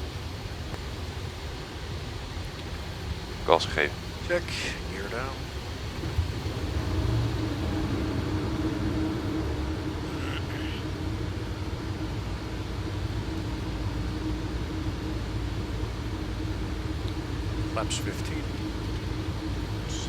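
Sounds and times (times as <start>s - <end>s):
constant hum: 0.0s - 20.0s
rumble of airflow and engines: 0.0s - 20.0s.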